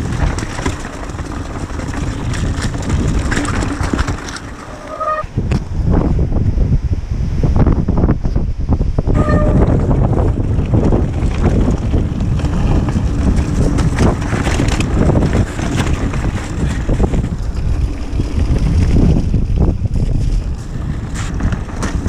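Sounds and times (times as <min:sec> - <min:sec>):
bike rattling knocks: 0:00.0 - 0:05.0, 0:09.2 - 0:22.0
bike tyre rumble: 0:00.0 - 0:22.0
wind buffeting microphone: 0:00.0 - 0:22.0.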